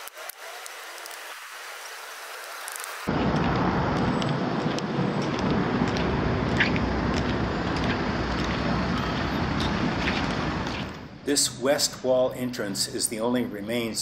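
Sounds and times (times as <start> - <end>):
street traffic rumble: 2.8 - 14.0.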